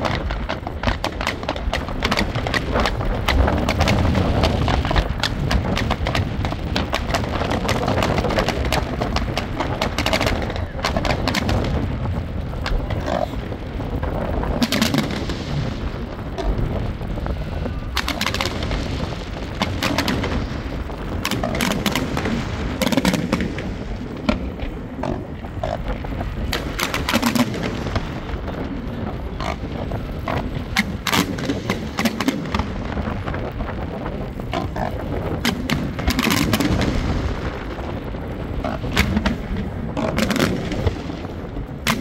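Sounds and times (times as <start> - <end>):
firework bangs and crackles: 0.0 - 42.0.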